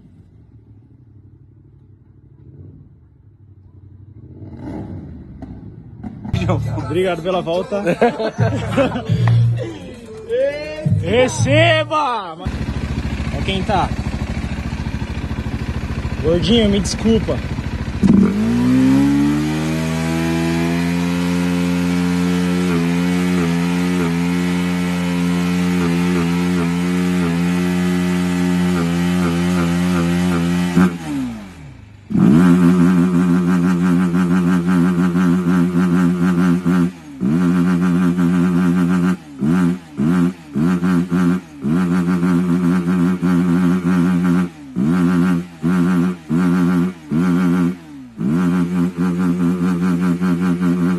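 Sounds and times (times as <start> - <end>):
motorcycle engine running: 0.0 - 50.9
motorcycle throttle bursts: 2.3 - 9.7, 12.4 - 50.9.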